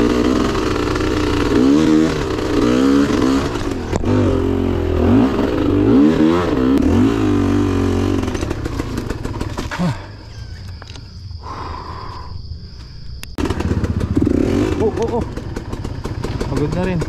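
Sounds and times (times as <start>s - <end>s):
dirt bike engine revving: 0.0s - 10.2s, 13.4s - 17.0s.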